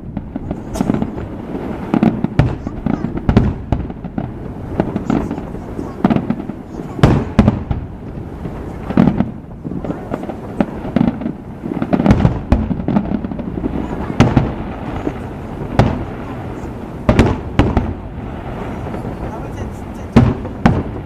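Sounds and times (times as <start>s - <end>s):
fireworks bangs: 0.0s - 21.0s
crowd voices: 0.4s - 3.6s, 4.4s - 12.0s, 12.9s - 21.0s.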